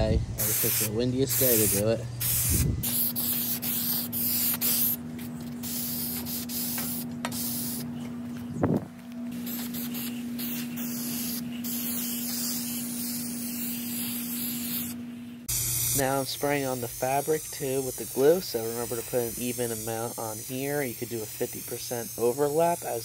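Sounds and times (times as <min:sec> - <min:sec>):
steady low hum: 0:00.0 - 0:23.0
aerosol can spraying: 0:00.4 - 0:05.0, 0:05.6 - 0:07.9, 0:09.3 - 0:23.0.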